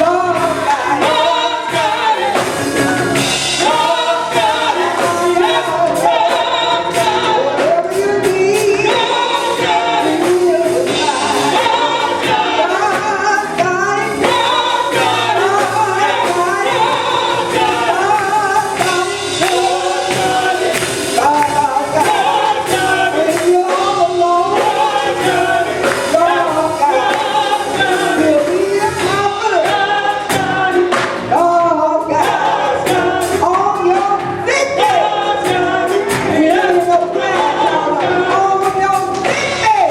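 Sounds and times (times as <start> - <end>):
church choir singing gospel: 0.0 - 39.9.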